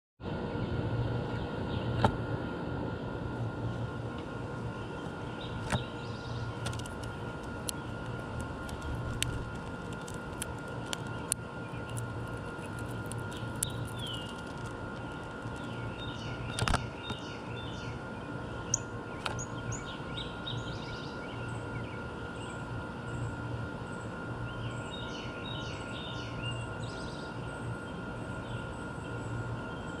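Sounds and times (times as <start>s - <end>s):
steady background hum: 0.2s - 30.0s
songbirds chirping: 4.5s - 9.3s, 10.0s - 30.0s.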